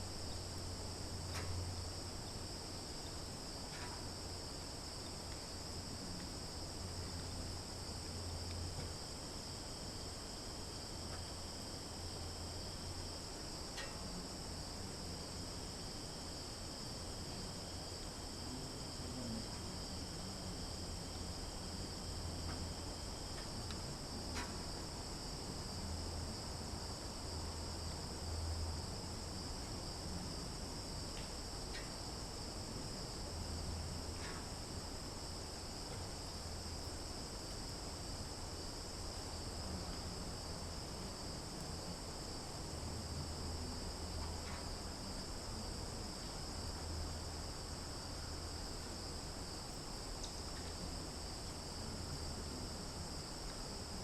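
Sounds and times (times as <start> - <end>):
insects buzzing chorus: 0.0 - 54.0.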